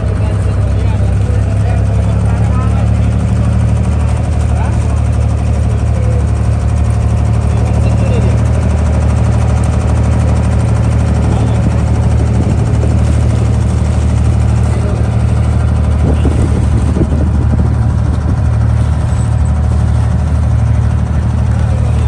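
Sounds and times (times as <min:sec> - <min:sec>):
boat diesel engine drone: 0:00.0 - 0:22.0.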